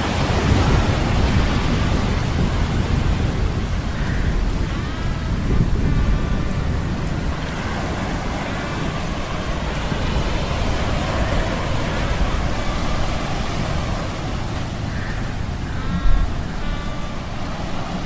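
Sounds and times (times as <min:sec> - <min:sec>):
surf: 0:00.0 - 0:18.0
wind: 0:00.0 - 0:18.0.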